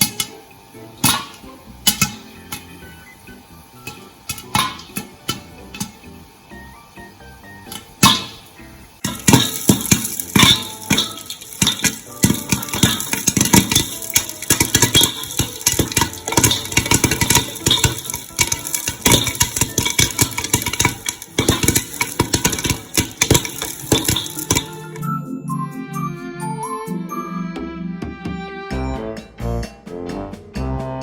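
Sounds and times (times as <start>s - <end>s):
popcorn popping in a pot: 0.0s - 25.0s.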